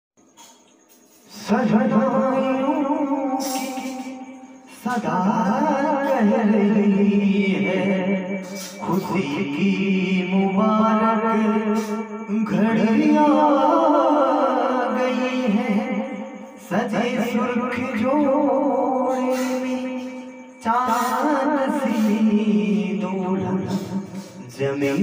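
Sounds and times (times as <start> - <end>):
man singing a wedding song: 1.3 - 25.0.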